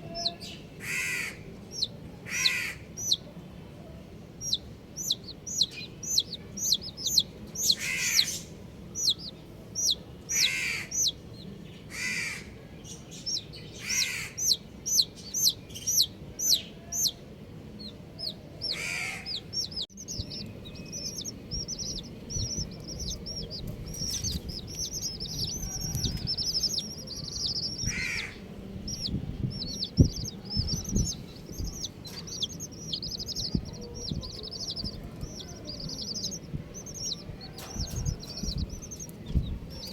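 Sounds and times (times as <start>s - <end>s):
baby chicks peeping: 0.0s - 3.4s, 4.0s - 39.9s.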